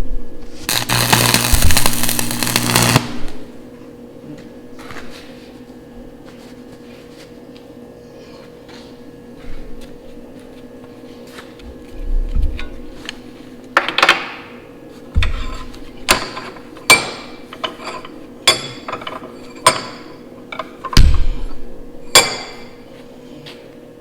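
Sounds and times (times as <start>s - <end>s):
steady shop hum: 0.0s - 24.0s.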